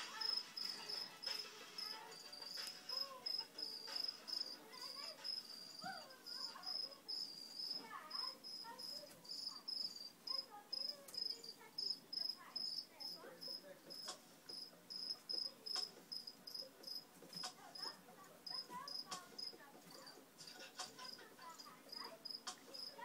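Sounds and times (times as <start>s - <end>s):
cricket chirping: 0.1s - 17.5s, 18.5s - 20.1s, 21.0s - 23.0s.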